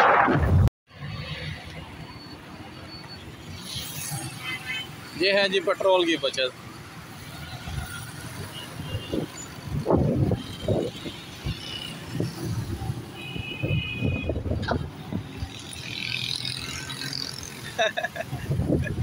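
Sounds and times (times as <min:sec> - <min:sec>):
motorbikes and cars passing: 0:01.0 - 0:19.0.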